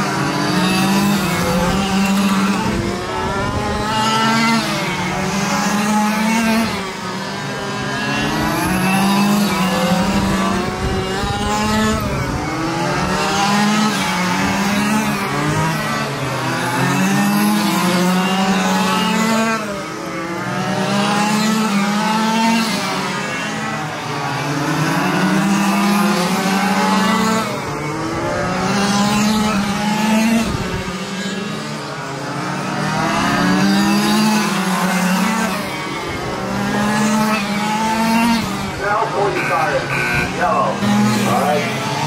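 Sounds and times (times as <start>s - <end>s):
rc car engines revving: 0.0s - 42.0s.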